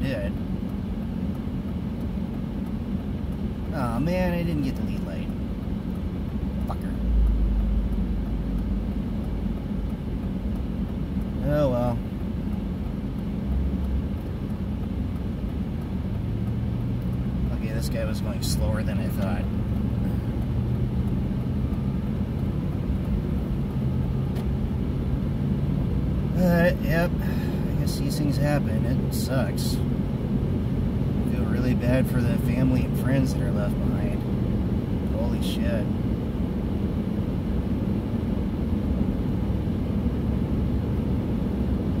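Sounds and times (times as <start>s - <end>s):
truck engine and road drone: 0.0s - 42.0s.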